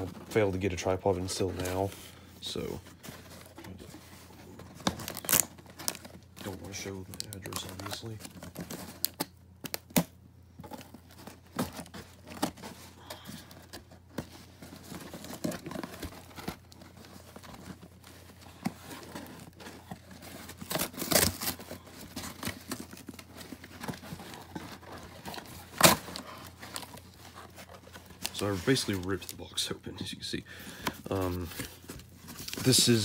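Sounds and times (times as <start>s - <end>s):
cardboard tearing and crinkling: 2.5s - 29.4s, 31.0s - 33.0s.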